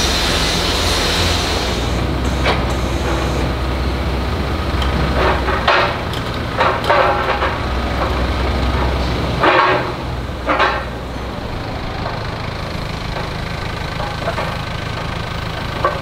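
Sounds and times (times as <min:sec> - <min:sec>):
forklift engine humming: 0:00.0 - 0:16.0.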